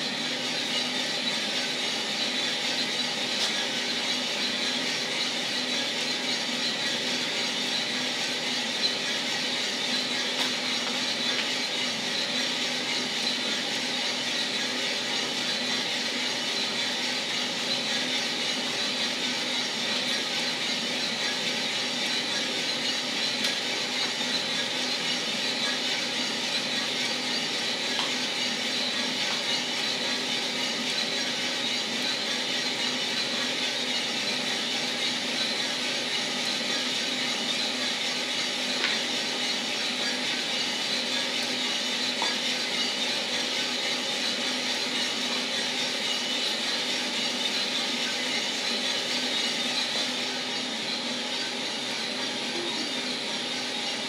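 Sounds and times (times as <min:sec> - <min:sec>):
motor hum: 0:00.0 - 0:54.0.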